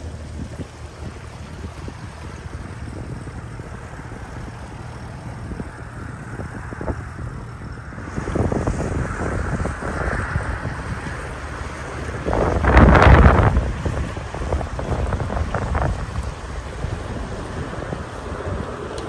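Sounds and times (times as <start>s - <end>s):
outboard motor humming: 0.0s - 19.0s
wind buffeting microphone: 0.0s - 19.0s.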